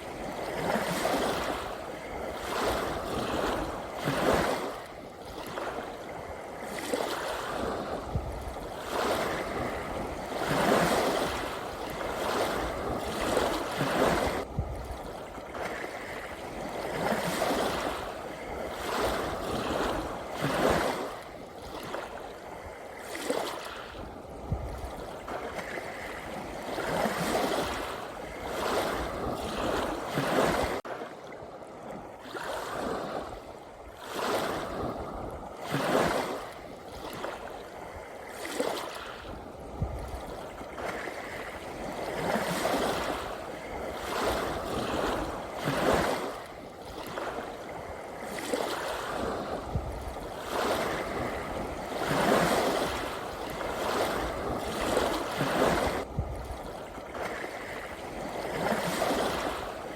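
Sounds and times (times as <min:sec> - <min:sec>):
small sea waves washing in: 0:00.0 - 0:59.9.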